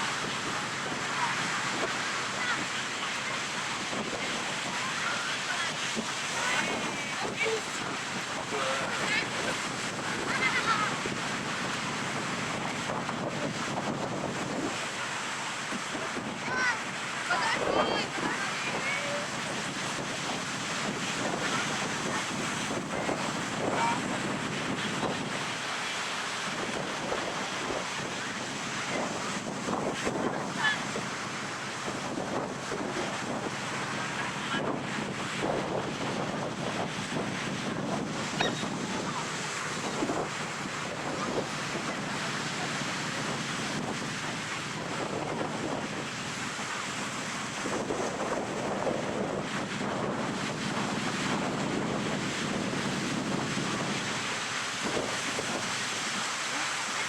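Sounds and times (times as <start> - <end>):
ocean surf on beach: 0.0 - 57.0
wind on microphone: 0.0 - 57.0.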